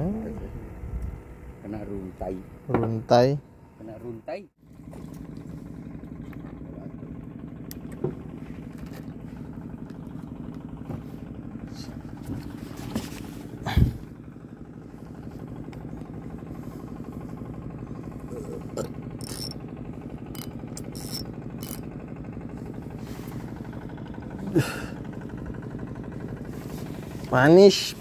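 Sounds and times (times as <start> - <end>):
boat engine idling: 0.0 - 28.0.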